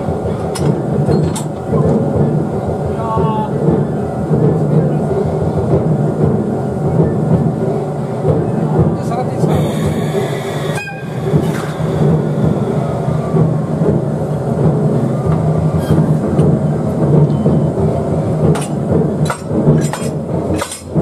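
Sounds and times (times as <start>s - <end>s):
electric locomotive hum and rumble: 0.0s - 21.0s.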